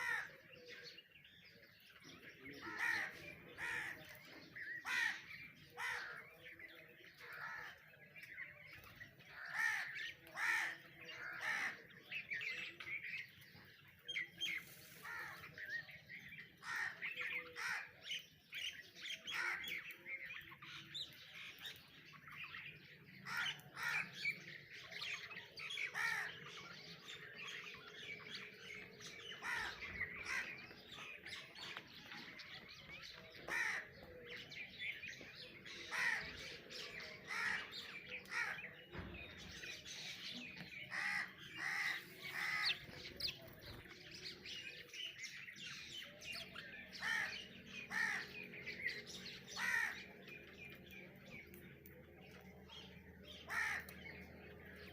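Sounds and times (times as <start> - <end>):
birds calling: 0.0 - 54.9.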